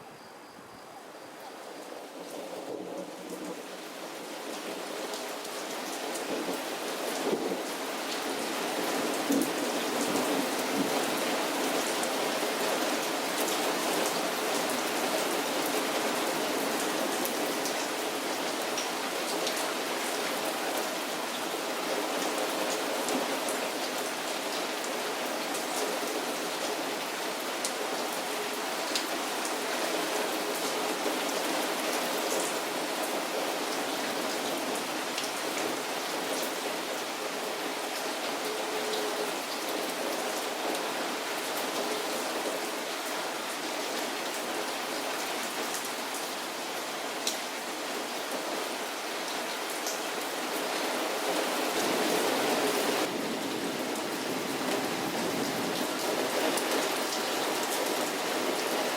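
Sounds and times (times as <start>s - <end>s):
heavy rain pouring: 1.3s - 58.9s.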